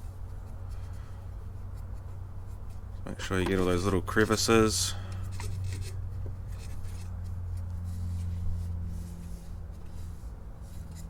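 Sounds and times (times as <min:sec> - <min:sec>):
cloth rubbing on oiled wood: 0:00.0 - 0:11.0
steady low hum: 0:00.0 - 0:11.0.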